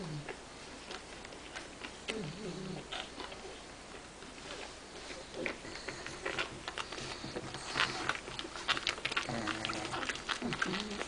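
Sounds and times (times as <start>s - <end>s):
puppy snuffles and mouth noises: 0.0s - 11.0s.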